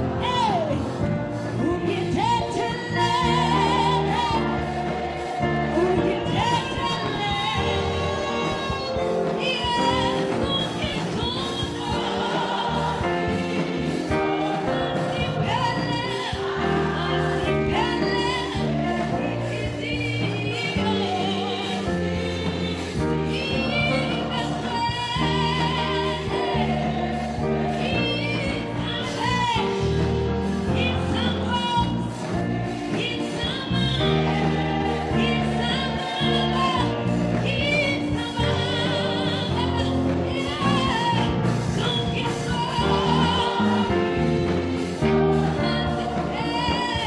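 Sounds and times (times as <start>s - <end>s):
gospel choir singing: 0.0s - 47.0s
lead singer on microphone: 0.0s - 47.0s.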